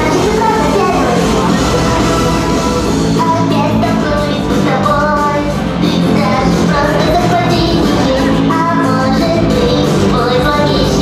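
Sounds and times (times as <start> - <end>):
pop song over speakers: 0.0 - 11.0.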